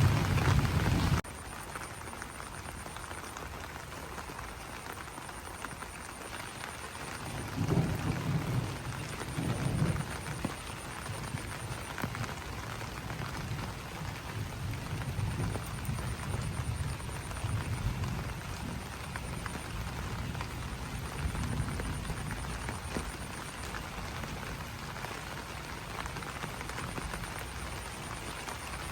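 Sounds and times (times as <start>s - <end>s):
rain pattering on leaves: 0.0s - 28.9s.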